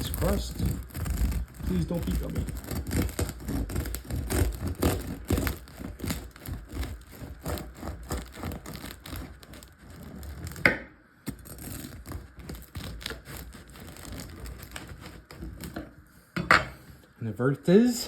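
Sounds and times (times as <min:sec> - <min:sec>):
knife sawing bread crust: 0:00.0 - 0:16.0.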